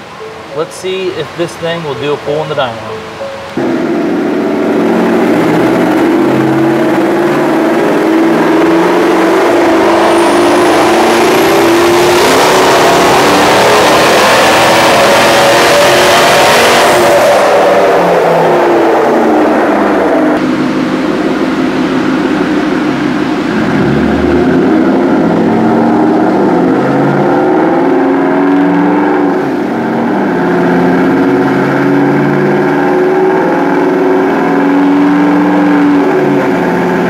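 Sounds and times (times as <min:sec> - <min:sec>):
car engine revving at full throttle: 0:00.0 - 0:37.0.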